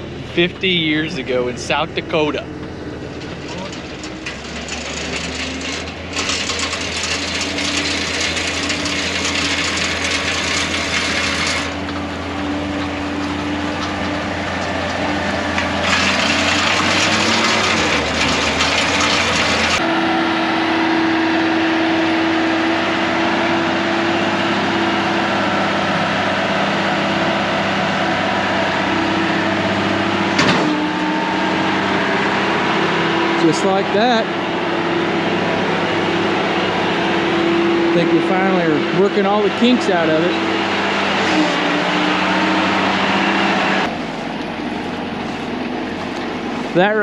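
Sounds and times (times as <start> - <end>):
farm machine engine running: 0.0 - 47.0
machinery scraping and rushing: 3.1 - 43.9.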